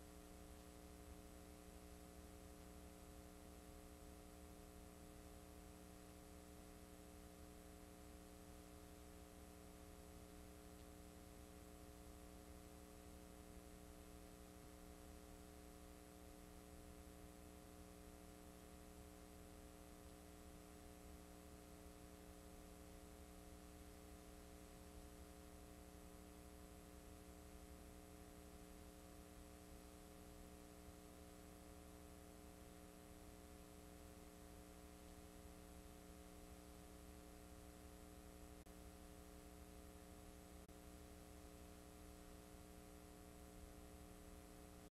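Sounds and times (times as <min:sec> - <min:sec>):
faint electrical mains hum: 0:00.0 - 0:44.9
low tape hiss: 0:00.0 - 0:44.9.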